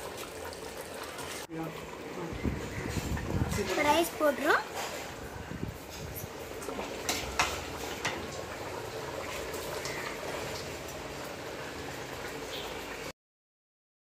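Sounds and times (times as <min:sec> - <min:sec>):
gravy bubbling in a pot: 0:00.0 - 0:13.1.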